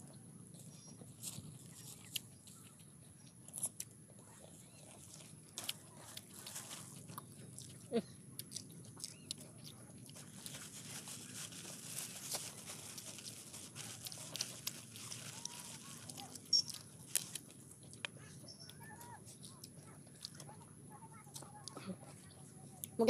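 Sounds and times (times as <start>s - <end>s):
small crunches and clicks: 0.6s - 23.0s.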